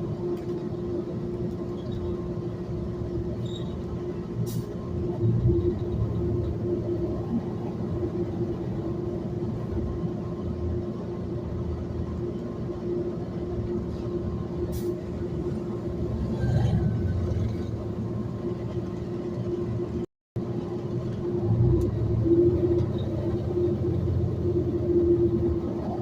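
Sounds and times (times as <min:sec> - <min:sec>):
bus engine and road rumble: 0:00.0 - 0:26.0
constant whine: 0:00.0 - 0:26.0.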